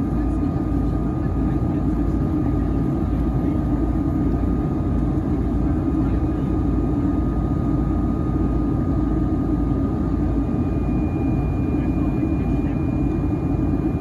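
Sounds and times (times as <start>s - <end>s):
airliner cabin rumble: 0.0s - 14.0s
faint steady whine: 0.0s - 14.0s.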